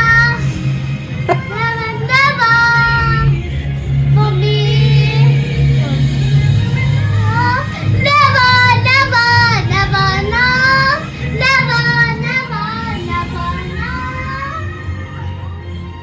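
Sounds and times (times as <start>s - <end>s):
high voice singing: 0.0s - 16.0s
low musical accompaniment: 0.0s - 16.0s.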